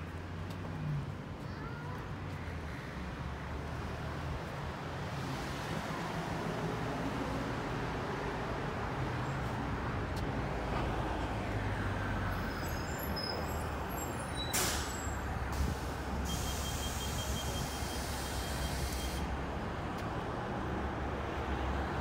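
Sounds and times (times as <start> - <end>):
rumble of passing vehicles: 0.0 - 22.0.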